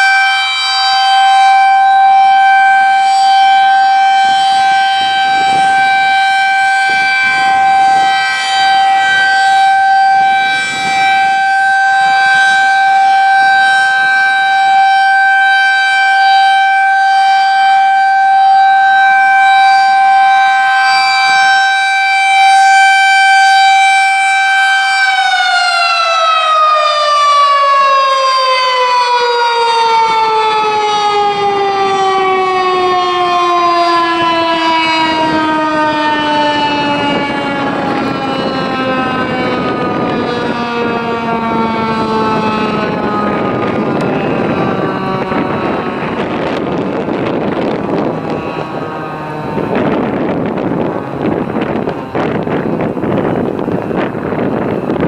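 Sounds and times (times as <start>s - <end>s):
electromechanical siren tone: 0.0s - 55.0s.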